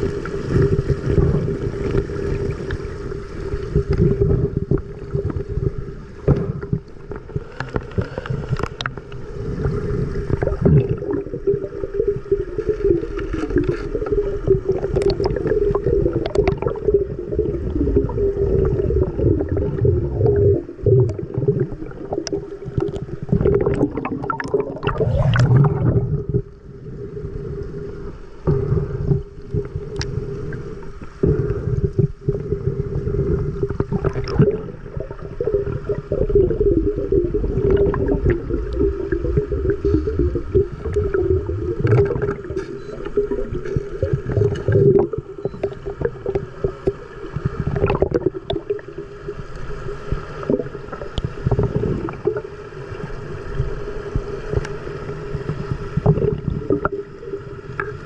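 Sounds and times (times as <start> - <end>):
water churning and gurgling: 0.0 - 58.0.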